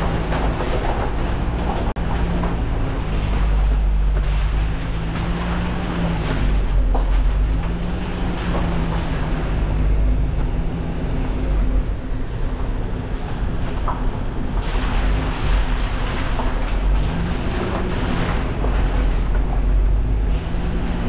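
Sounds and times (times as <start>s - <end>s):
tyres rolling over rubble: 0.0s - 21.0s
vehicle engine running at low speed: 0.0s - 21.0s.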